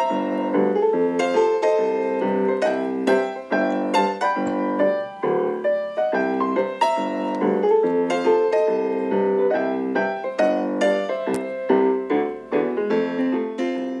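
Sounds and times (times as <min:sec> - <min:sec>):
ragtime piano tune: 0:00.0 - 0:14.0.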